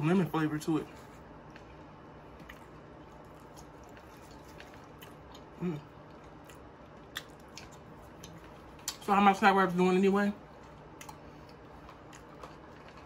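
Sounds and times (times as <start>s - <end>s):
chewing fries: 0.6s - 13.0s.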